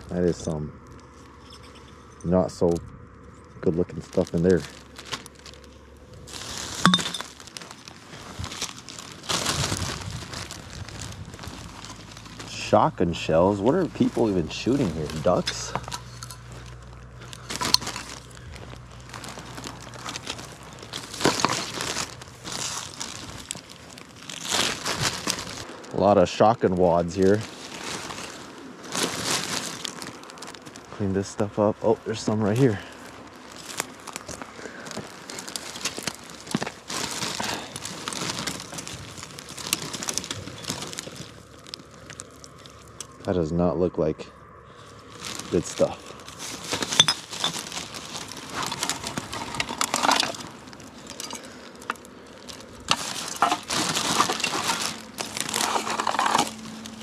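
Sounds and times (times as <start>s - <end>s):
dry twigs crackling and snapping: 0.0s - 43.5s, 44.4s - 57.0s
plastic bag crinkling: 3.6s - 43.3s, 44.7s - 57.0s.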